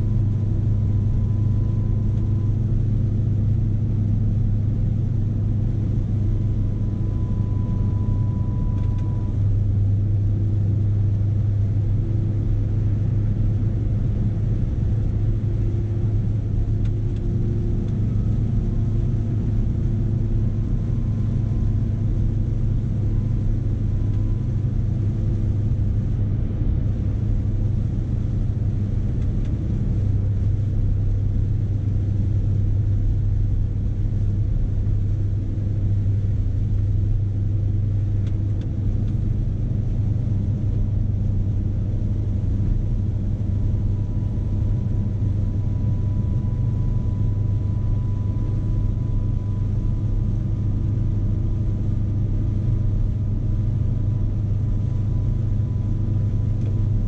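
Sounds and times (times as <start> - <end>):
diesel truck engine drone: 0.0 - 57.0.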